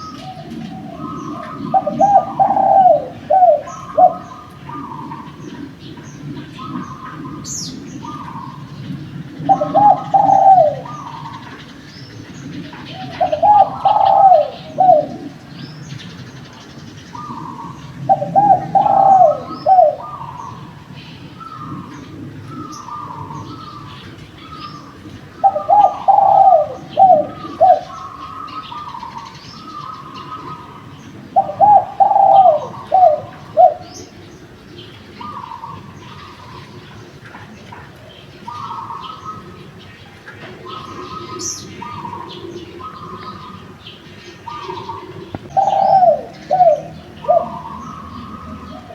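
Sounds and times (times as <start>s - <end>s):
dove cooing: 0.0s - 48.9s
faint dove cooing: 0.0s - 48.9s
small birds chirping: 0.0s - 48.9s.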